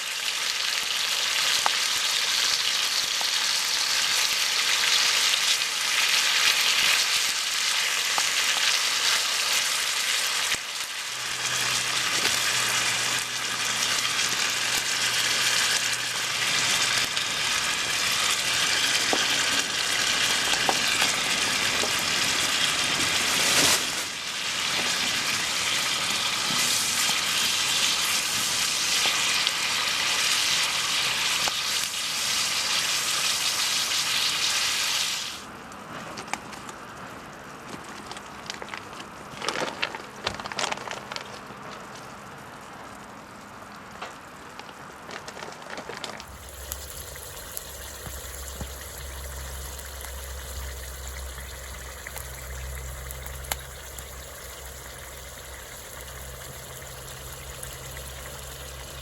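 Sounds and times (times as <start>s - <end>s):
garlic sizzling in oil: 0.0s - 35.4s, 46.2s - 59.0s.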